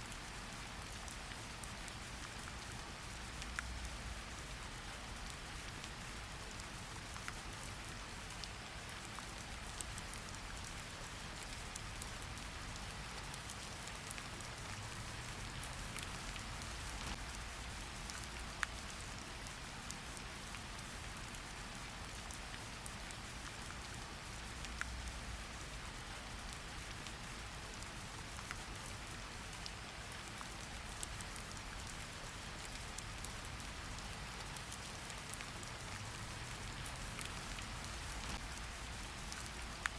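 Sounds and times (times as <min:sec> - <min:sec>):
steady rain hiss: 0:00.0 - 0:39.9
raindrops dripping and tapping: 0:00.1 - 0:39.9.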